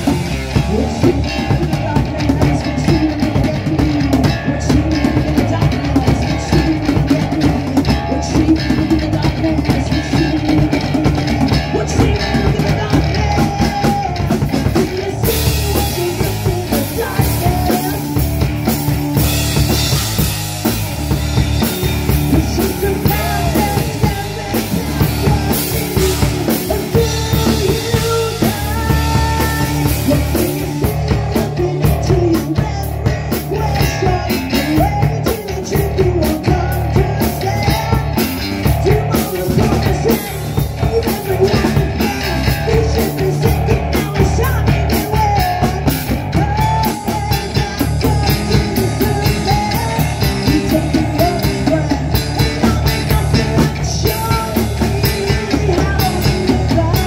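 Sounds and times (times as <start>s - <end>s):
drum kit: 0.0s - 57.0s
electric bass guitar: 0.0s - 57.0s
woman singing: 0.6s - 19.9s, 22.0s - 57.0s.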